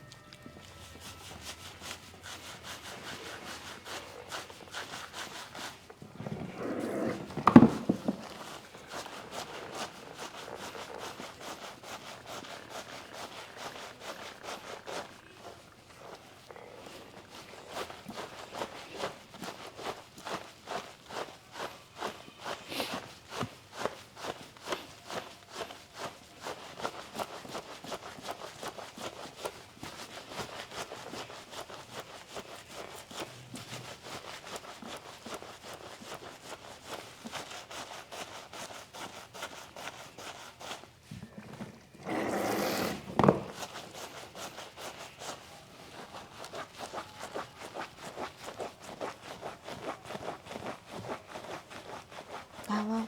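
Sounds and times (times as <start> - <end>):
hands rubbing and scraping: 0.0 - 53.0.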